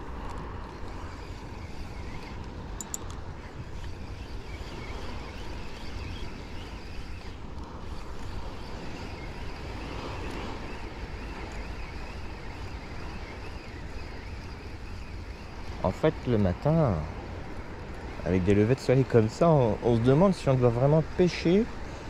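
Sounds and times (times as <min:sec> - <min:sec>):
sea: 0:00.0 - 0:22.0.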